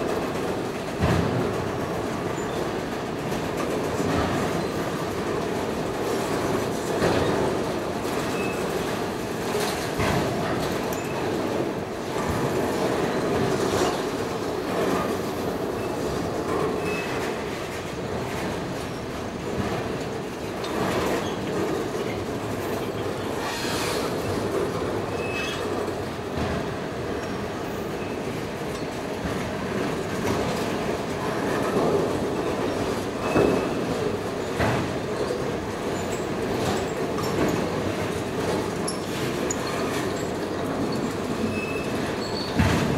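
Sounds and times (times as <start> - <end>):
train wheels rumbling and clattering: 0.0 - 42.9.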